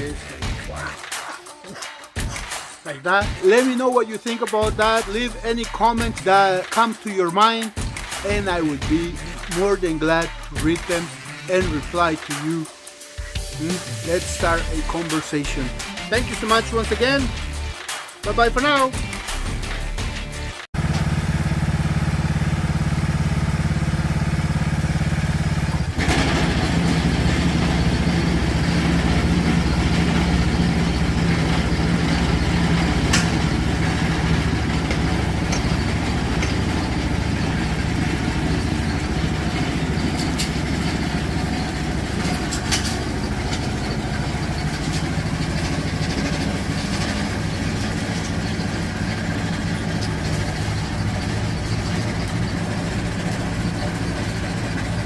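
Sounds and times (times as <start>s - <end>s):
lawnmower engine running: 3.2s - 55.0s.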